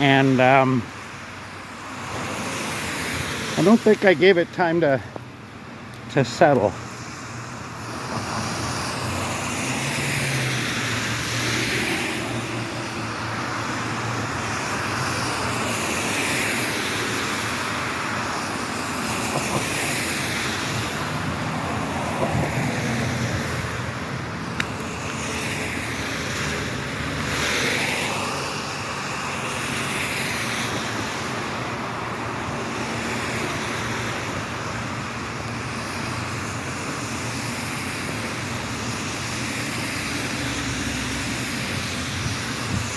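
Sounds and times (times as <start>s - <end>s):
tyres hissing on wet road: 0.0s - 42.9s.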